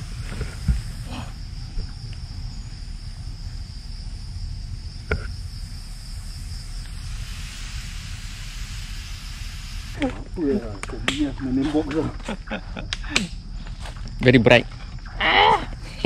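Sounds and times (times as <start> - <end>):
low rumble: 0.0 - 15.0
night insects chorus: 0.0 - 16.0.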